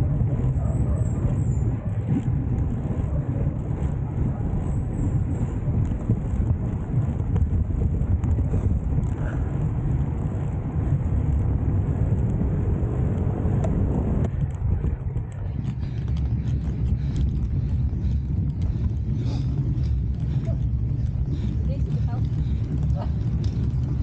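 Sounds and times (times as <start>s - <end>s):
road noise: 0.0s - 24.0s
wind rumble on microphone: 0.0s - 24.0s.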